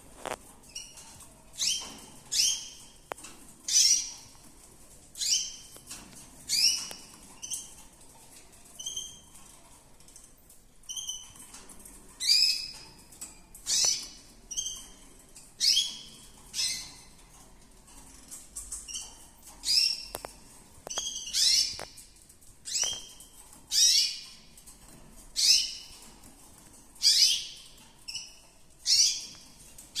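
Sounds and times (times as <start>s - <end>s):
canary chirping: 0.1s - 30.0s.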